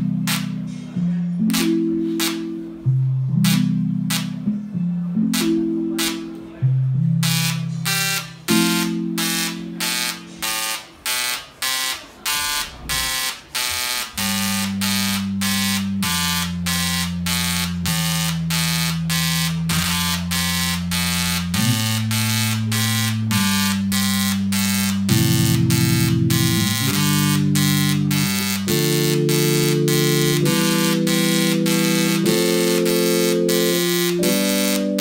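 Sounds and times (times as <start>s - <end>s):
synthesizer chords: 0.0s - 35.0s
tesla coil buzzing tones: 0.0s - 35.0s.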